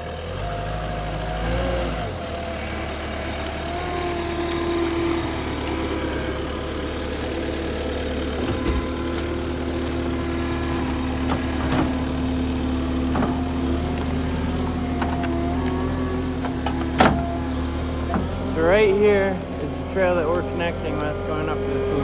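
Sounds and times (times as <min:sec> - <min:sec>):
diesel engine under load: 0:00.0 - 0:22.0
logs and branches knocking: 0:02.3 - 0:22.0.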